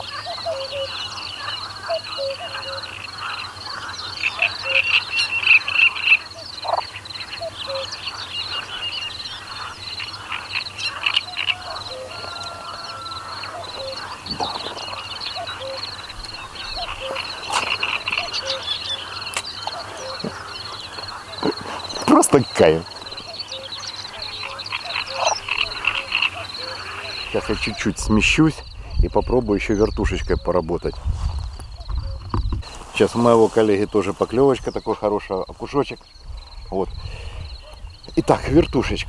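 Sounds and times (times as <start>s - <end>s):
frogs croaking: 0.0s - 39.0s.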